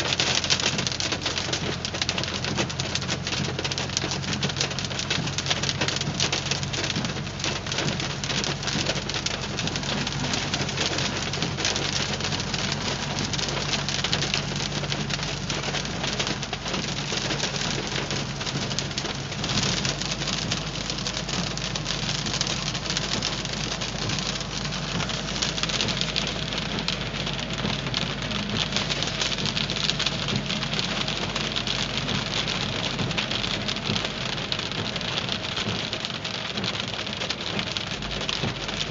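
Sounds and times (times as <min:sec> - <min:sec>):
car driving hum: 0:00.0 - 0:38.9
hail clattering on car: 0:00.0 - 0:38.9.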